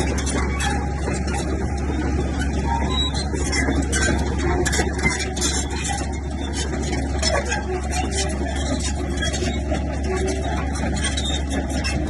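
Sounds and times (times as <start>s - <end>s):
bulldozer diesel engine running: 0.0s - 12.0s
clanks and rattles: 0.0s - 12.0s.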